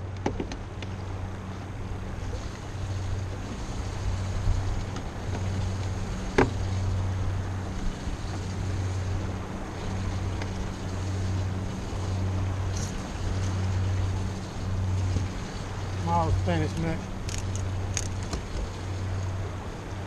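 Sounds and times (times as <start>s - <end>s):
boat engine hum: 0.0s - 20.0s
wind and water noise: 0.0s - 20.0s.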